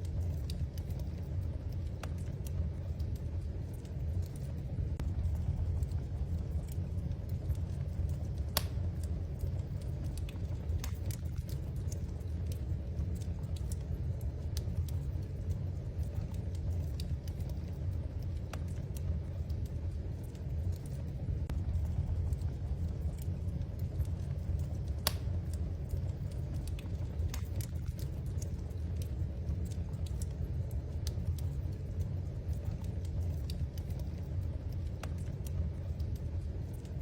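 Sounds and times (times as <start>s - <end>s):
low fire rumble: 0.0s - 37.0s
wood fire crackling and popping: 0.0s - 37.0s.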